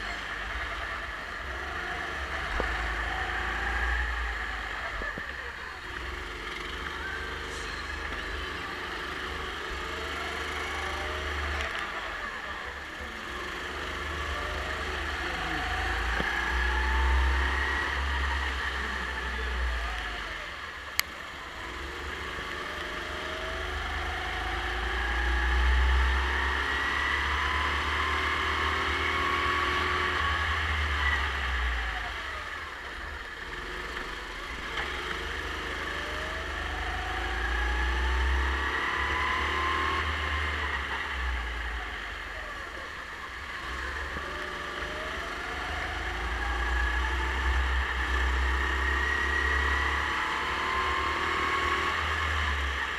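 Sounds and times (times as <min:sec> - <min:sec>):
racing kart engine accelerating: 0:00.0 - 0:52.9.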